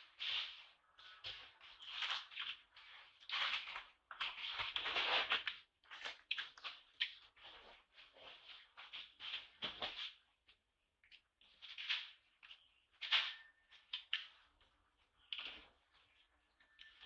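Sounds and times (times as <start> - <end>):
rustling and scratching: 0.0 - 17.0.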